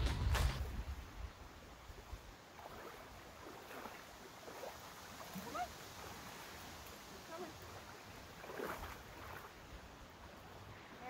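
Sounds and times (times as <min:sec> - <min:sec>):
wind: 0:00.0 - 0:11.0
small waves lapping at shore: 0:00.3 - 0:11.0.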